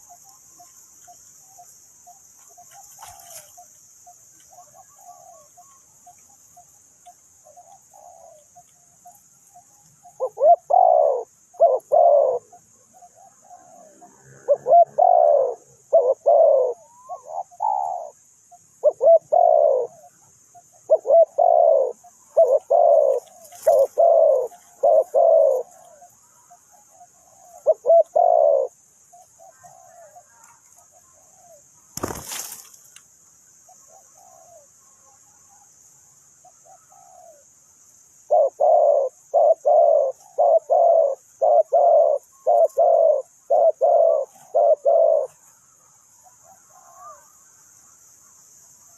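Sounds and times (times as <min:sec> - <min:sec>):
doves cooing: 0:00.0 - 0:32.6, 0:33.7 - 0:34.8, 0:36.4 - 0:37.5, 0:38.3 - 0:47.4.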